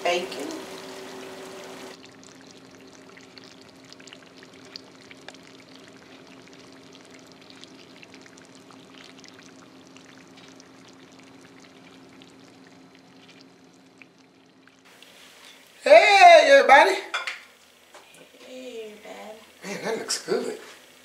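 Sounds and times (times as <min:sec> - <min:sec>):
casserole sizzling and crackling: 0:00.0 - 0:21.0.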